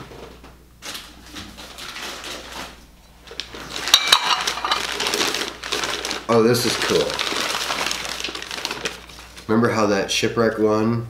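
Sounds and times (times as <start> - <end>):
newspaper crinkling and rustling: 0.8 - 9.9.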